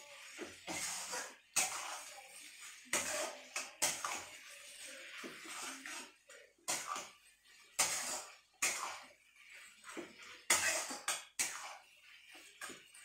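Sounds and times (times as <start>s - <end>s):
metal spatula scraping steel pan: 0.0s - 13.0s.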